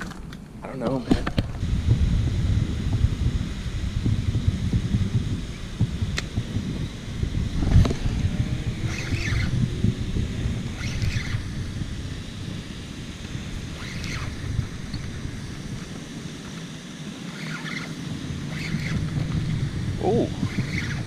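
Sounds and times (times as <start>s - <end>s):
wind buffeting microphone: 0.8s - 21.0s.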